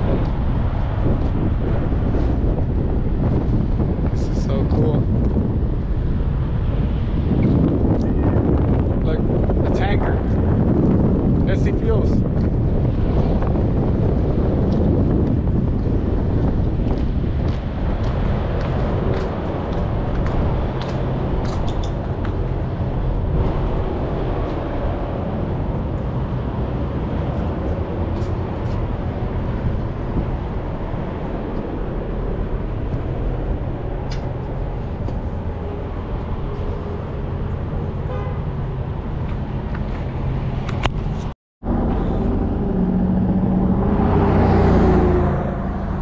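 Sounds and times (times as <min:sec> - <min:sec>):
outdoor low rumble: 0:00.0 - 0:46.0.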